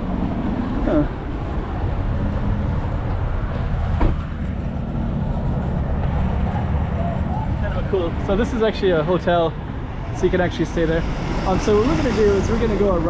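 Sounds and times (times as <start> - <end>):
low rumble of street traffic: 0.0 - 13.0.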